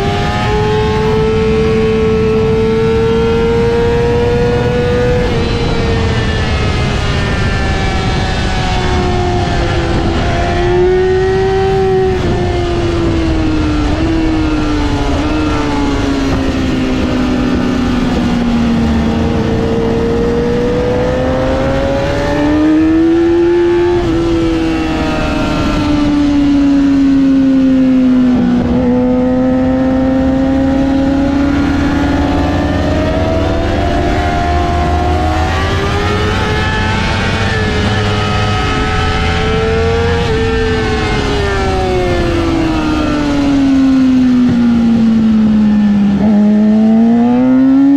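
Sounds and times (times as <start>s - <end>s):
motorcycle engine at high revs: 0.0s - 47.9s.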